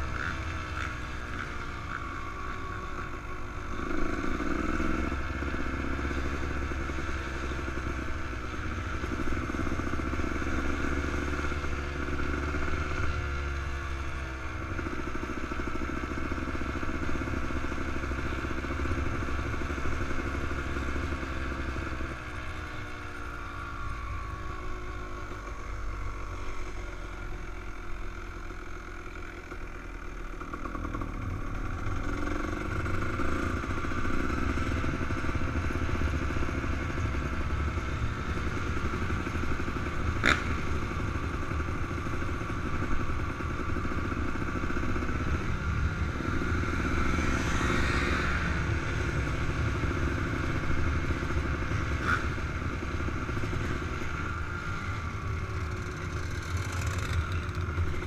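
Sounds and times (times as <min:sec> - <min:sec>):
dirt bike engine at low revs: 0:00.0 - 0:58.0.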